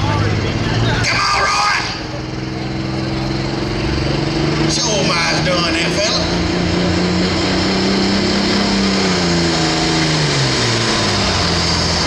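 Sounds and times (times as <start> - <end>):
tractor diesel engine running loudly: 0.0 - 12.0.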